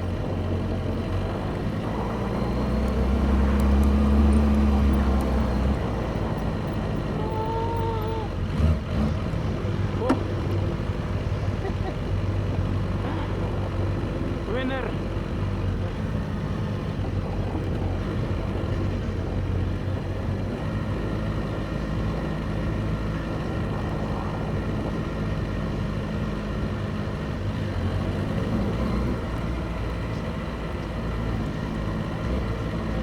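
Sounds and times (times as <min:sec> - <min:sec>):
motorcycle engines idling: 0:00.0 - 0:33.0.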